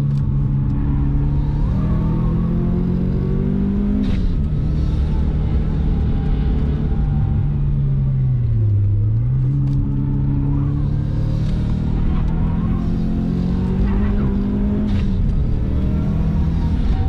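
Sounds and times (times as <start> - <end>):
car engine under hard driving: 0.0 - 17.0.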